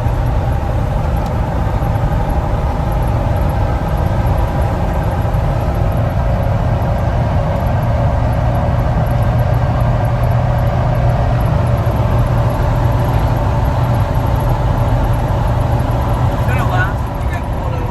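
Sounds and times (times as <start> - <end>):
car engine droning: 0.0 - 17.9.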